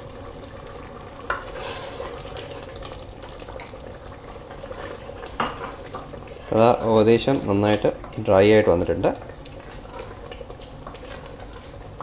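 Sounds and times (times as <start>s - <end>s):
gravy sizzling: 0.0s - 12.0s
spoon stirring thick gravy: 0.6s - 12.0s.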